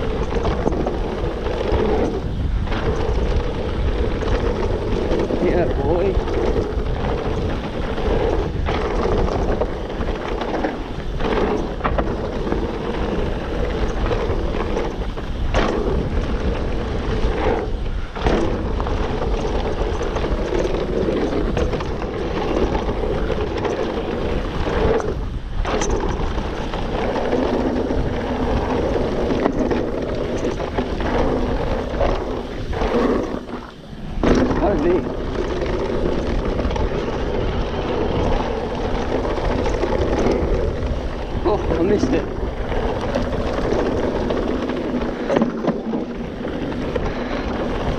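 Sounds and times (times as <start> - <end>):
bike knocks and rattles: 0.0 - 47.9
tyre rumble: 0.0 - 47.9
wind buffeting microphone: 0.0 - 47.9.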